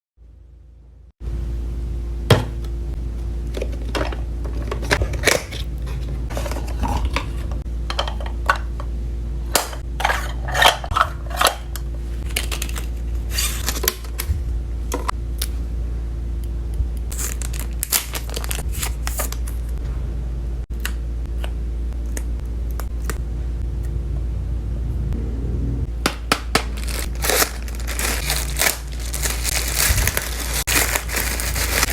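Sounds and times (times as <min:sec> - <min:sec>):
low hum: 0:00.2 - 0:31.9.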